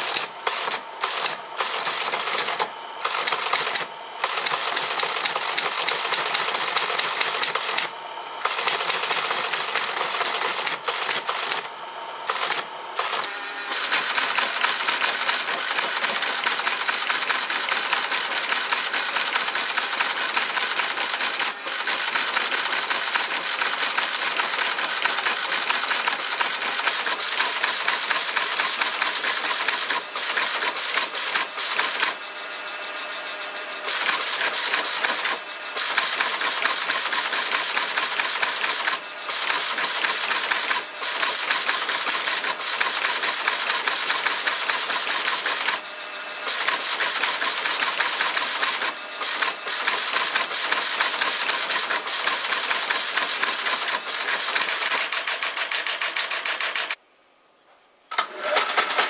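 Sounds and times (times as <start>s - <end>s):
teletype mechanical clatter: 0.0s - 32.2s, 33.8s - 45.8s, 46.4s - 57.0s, 58.1s - 59.0s.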